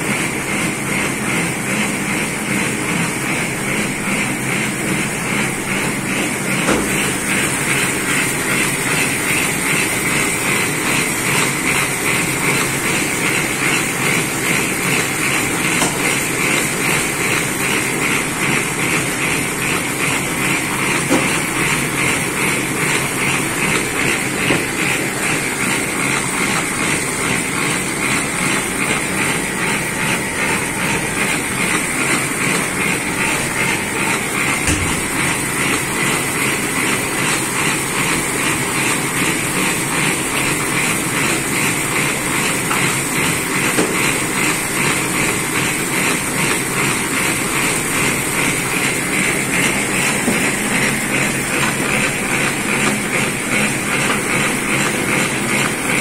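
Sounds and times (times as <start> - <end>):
laminating machine clattering: 0.0 - 56.0.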